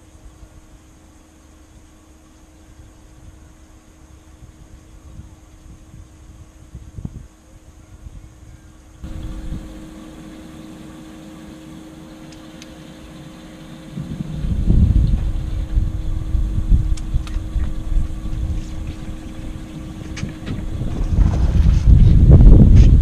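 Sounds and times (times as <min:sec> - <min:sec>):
faint steady hum: 0:00.0 - 0:23.0
wind buffeting microphone: 0:04.4 - 0:23.0.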